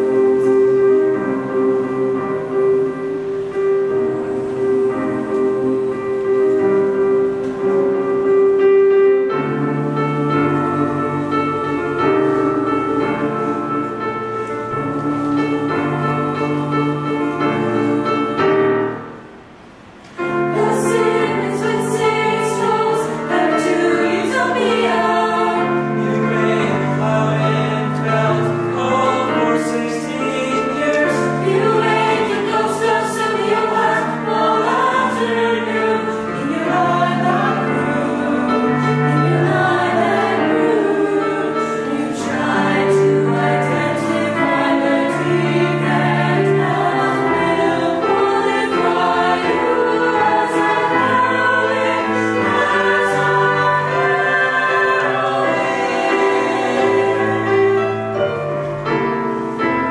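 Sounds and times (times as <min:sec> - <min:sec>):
youth choir singing a cappella: 0:00.0 - 0:19.3, 0:20.2 - 0:58.4.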